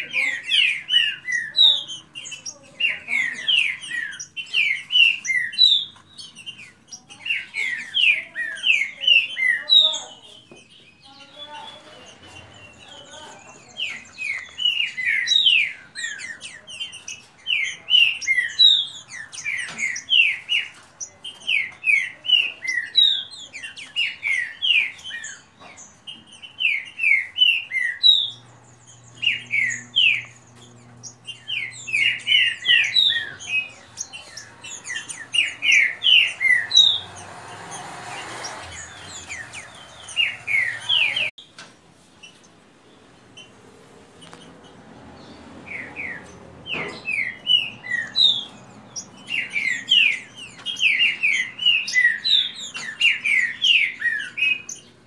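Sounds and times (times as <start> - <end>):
birds whistling song: 0.0 - 55.0.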